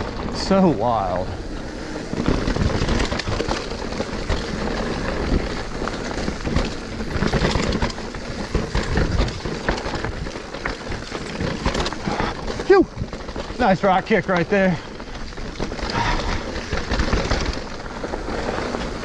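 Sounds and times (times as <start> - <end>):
bike frame rattling: 0.0 - 19.0
bike tyres rumbling over dirt: 0.0 - 19.0.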